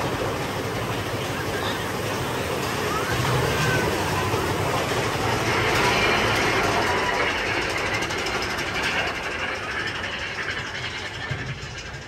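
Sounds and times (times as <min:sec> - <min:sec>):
roller coaster cars rumbling: 0:00.0 - 0:12.0.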